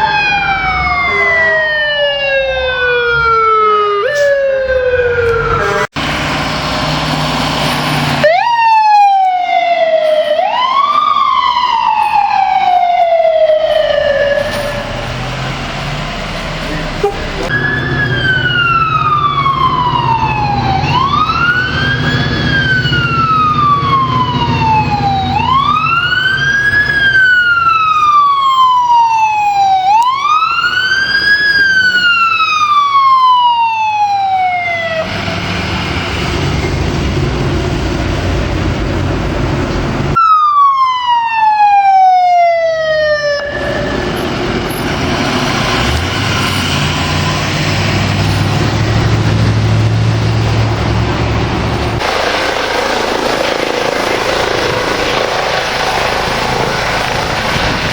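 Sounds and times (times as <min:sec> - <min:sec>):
emergency vehicle siren wailing: 0:00.0 - 0:57.9
road noise: 0:00.0 - 0:57.9
engine rumble: 0:04.1 - 0:40.2, 0:43.3 - 0:57.9.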